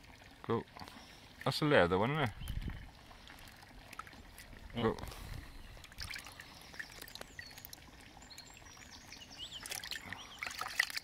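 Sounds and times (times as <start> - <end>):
water drips and splashes: 0.0 - 11.0
water sloshing in plastic tub: 0.8 - 11.0.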